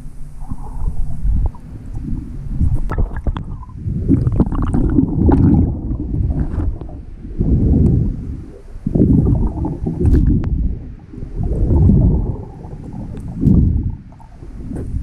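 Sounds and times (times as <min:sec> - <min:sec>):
underwater rumble and gurgling: 0:00.0 - 0:15.0.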